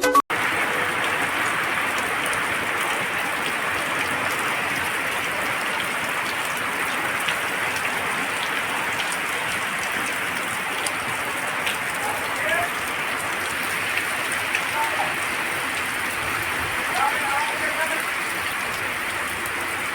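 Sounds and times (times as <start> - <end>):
heavy rain falling: 0.3 - 19.9
rain drop ticks: 0.3 - 19.9.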